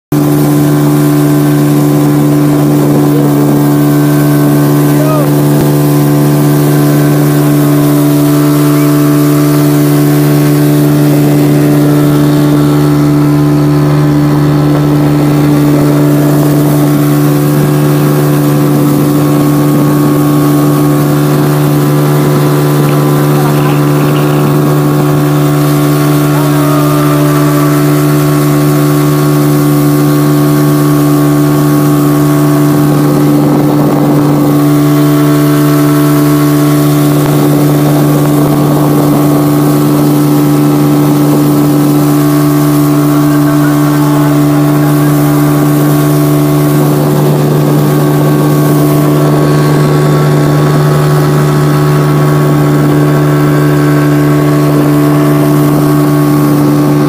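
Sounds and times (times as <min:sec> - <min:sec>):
motorboat engine humming: 0:00.1 - 0:57.0.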